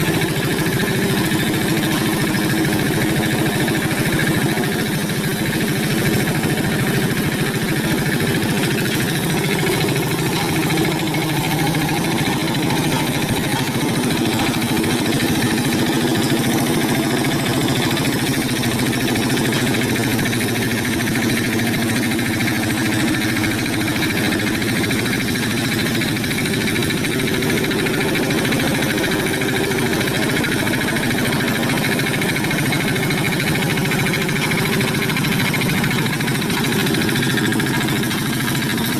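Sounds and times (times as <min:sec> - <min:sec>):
hand tractor engine running: 0:00.0 - 0:38.9.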